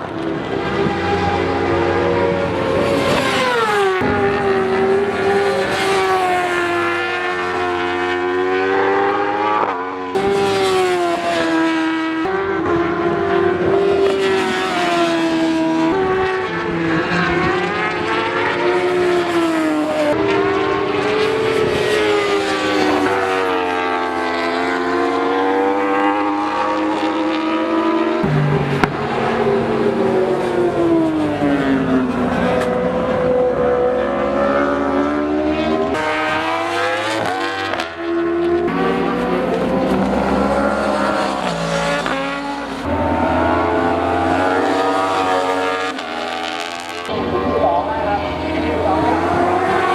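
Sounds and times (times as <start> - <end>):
racing motorcycles accelerating: 0.0 - 49.9.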